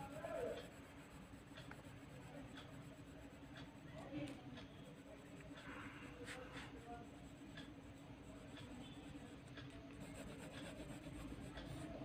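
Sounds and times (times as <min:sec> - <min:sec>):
pencil scratching on paper: 0:00.0 - 0:04.0, 0:04.9 - 0:12.0.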